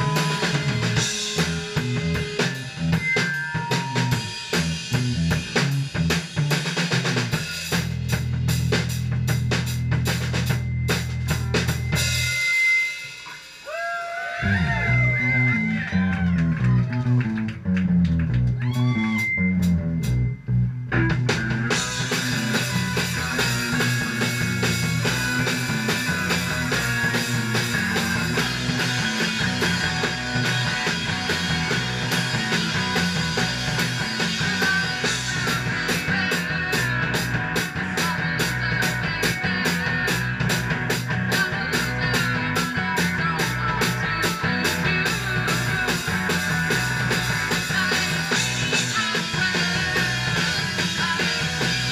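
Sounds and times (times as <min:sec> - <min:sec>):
electric guitar: 0:00.0 - 0:08.6, 0:14.3 - 0:51.9
drum kit beat: 0:00.0 - 0:16.3, 0:17.2 - 0:51.9
bass guitar: 0:00.0 - 0:51.9.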